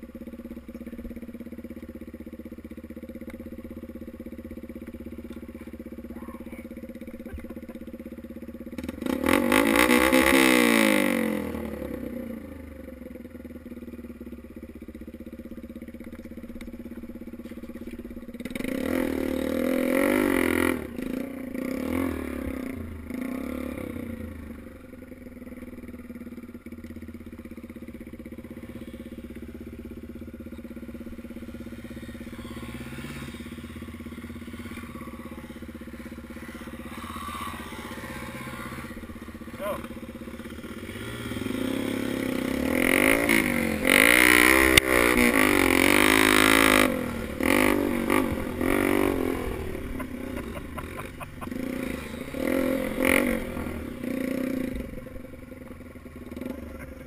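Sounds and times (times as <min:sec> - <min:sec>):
dirt bike engine idling and revving: 0:00.0 - 0:57.0.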